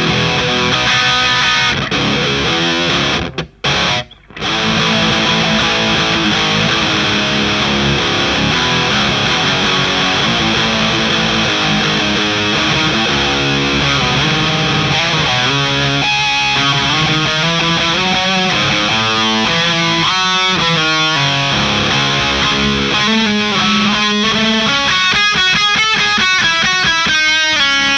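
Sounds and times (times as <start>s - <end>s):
distorted electric guitar riffing: 0.0s - 27.9s.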